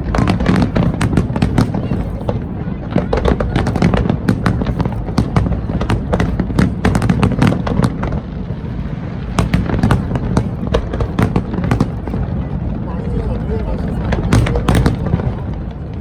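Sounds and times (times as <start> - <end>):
fireworks cracking and banging: 0.0 - 16.0.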